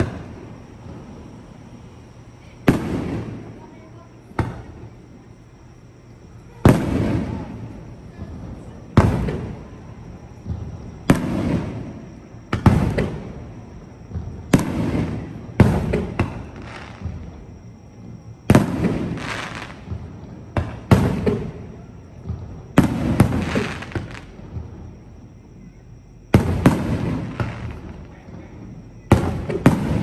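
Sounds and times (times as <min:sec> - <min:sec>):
firework shells booming: 0:00.0 - 0:01.8, 0:02.4 - 0:05.0, 0:06.5 - 0:25.2, 0:26.3 - 0:30.0.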